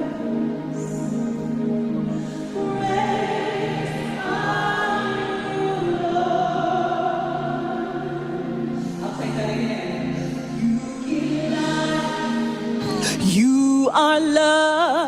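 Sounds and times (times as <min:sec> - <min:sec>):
choir singing slow melody: 0:00.0 - 0:13.5.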